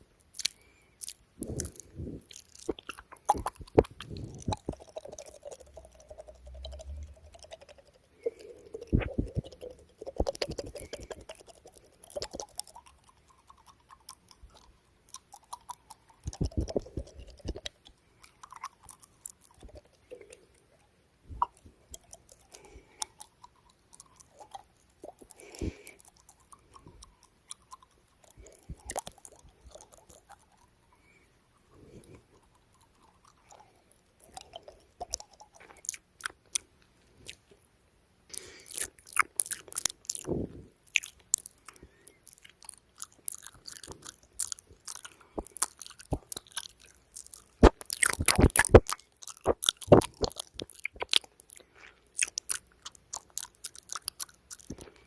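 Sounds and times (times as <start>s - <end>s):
wet mouth clicks and smacks: 0.0s - 31.2s, 31.9s - 37.6s, 38.3s - 55.0s.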